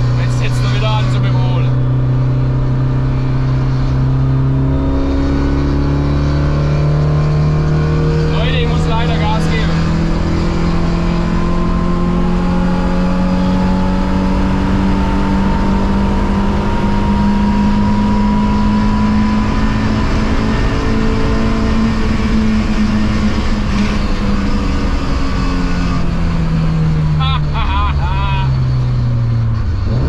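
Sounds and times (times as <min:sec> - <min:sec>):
car engine at full throttle: 0:00.0 - 0:30.0.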